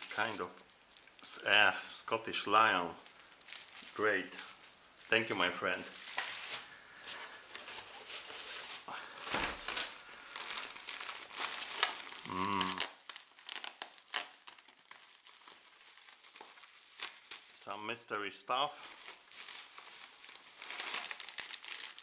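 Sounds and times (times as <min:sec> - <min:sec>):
bubble wrap crinkling: 0:00.0 - 0:17.8, 0:18.7 - 0:22.0.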